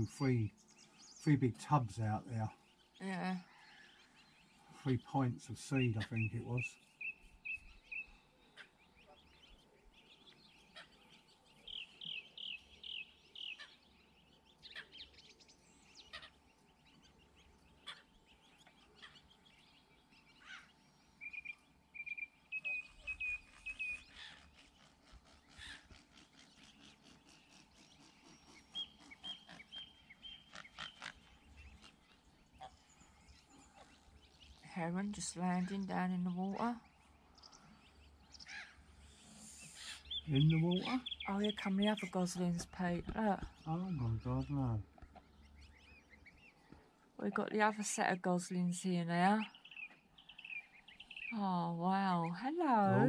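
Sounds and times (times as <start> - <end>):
goslings peeping: 3.5 - 48.0.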